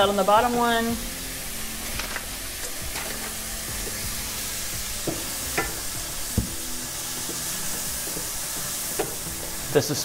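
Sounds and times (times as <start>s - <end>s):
vegetables sizzling in butter: 0.0s - 10.0s.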